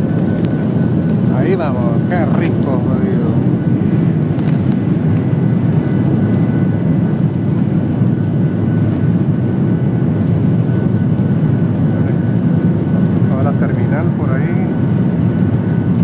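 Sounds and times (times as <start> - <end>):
high engine whine: 0.0 - 16.0
jet engines rumbling: 0.0 - 16.0.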